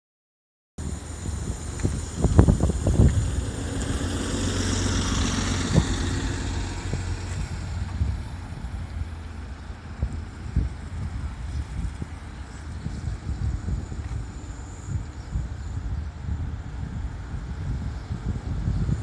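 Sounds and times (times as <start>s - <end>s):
bus hiss: 0.8s - 18.7s
bus engine drone: 0.8s - 19.0s.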